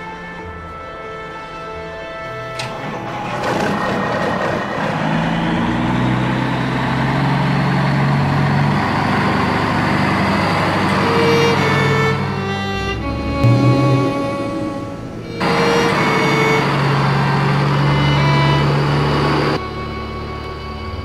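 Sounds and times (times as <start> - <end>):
bowed-string music: 0.0 - 4.0, 7.2 - 21.0
truck engine rumbling: 2.5 - 21.0.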